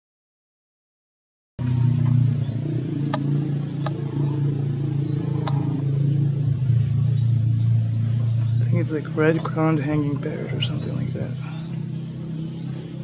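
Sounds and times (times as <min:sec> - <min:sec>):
bird chirps: 0:01.6 - 0:13.0
low engine drone: 0:01.6 - 0:13.0.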